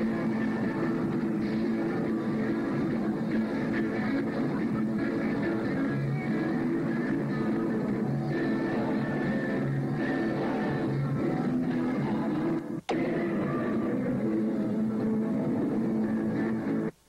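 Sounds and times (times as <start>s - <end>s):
electric guitars: 0.0s - 16.9s.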